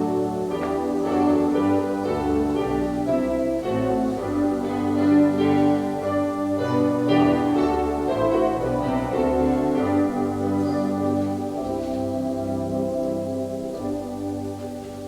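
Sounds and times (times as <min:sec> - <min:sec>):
sustained instrumental chords: 0:00.0 - 0:15.0.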